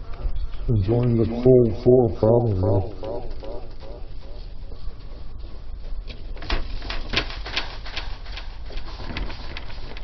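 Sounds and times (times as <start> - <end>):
low steady background noise: 0.0 - 10.0.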